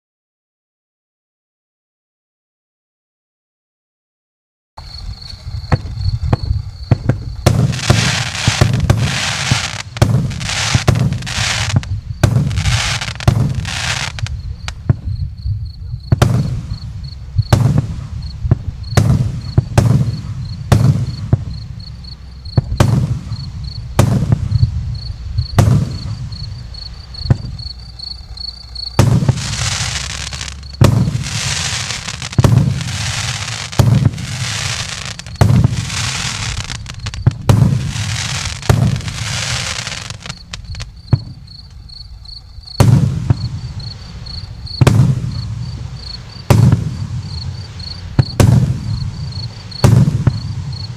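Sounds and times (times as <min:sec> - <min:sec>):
fireworks launch thumps and bursts: 0:04.8 - 0:15.3, 0:16.0 - 0:50.9
fireworks crackling fizz: 0:04.8 - 0:15.4, 0:16.0 - 0:50.9.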